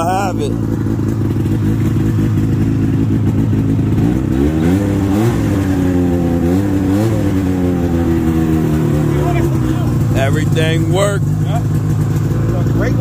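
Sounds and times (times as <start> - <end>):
snowmobile engine idling and revving: 0.0 - 13.0.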